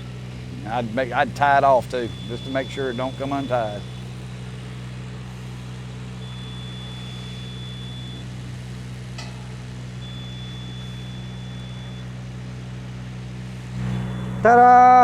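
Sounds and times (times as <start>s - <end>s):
faint high whine: 0.0s - 12.3s, 13.6s - 15.0s
engine idling drone: 0.0s - 15.0s.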